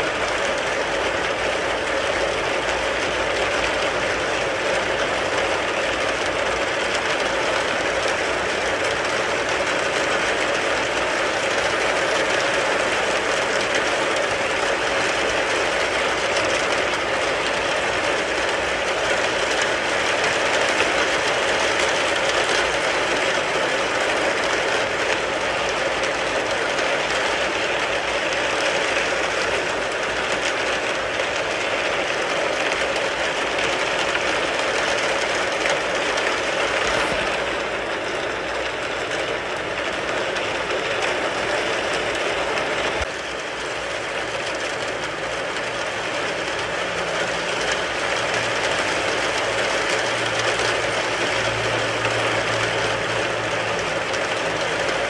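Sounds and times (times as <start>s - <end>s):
rain on car roof: 0.0s - 55.0s.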